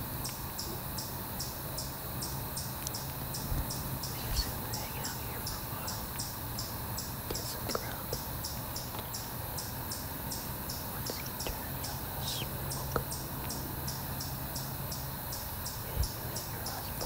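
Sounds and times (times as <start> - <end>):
insects chirping: 0.0 - 17.0
low steady hum: 0.0 - 17.0.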